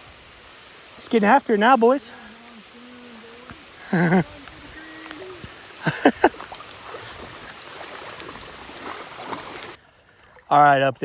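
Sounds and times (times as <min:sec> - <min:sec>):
rain falling on a river: 0:00.0 - 0:11.0.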